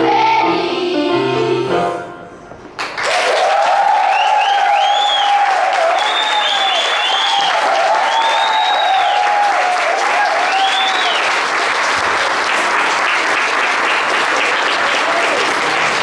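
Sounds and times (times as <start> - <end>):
audience applauding: 2.8 - 16.0
crowd cheering: 2.8 - 16.0.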